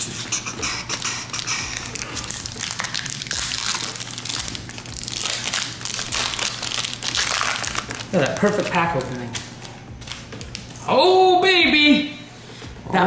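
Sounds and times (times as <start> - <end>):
foil wrappers crinkling: 0.0 - 10.8.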